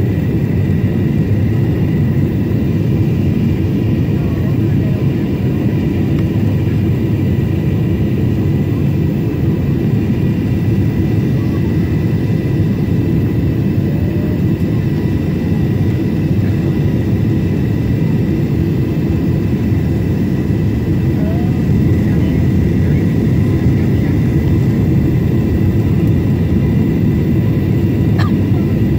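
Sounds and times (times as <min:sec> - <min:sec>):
airplane cabin airflow and engines: 0:00.0 - 0:28.9.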